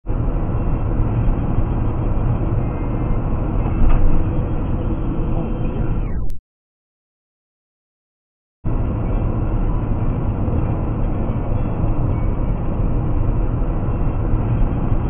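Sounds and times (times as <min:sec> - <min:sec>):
car road and engine noise: 0:00.1 - 0:06.2, 0:08.7 - 0:15.0.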